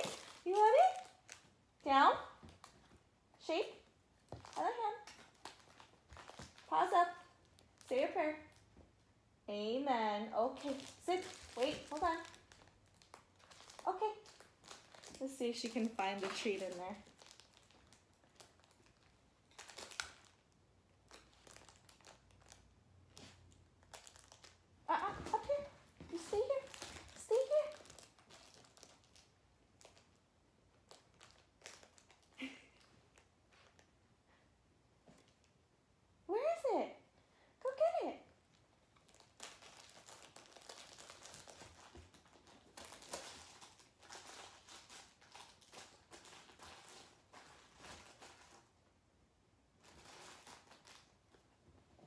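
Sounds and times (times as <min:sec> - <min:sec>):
crinkly dog toy rustling: 0:00.0 - 0:09.0, 0:10.4 - 0:33.9, 0:38.5 - 0:48.9, 0:49.8 - 0:51.7.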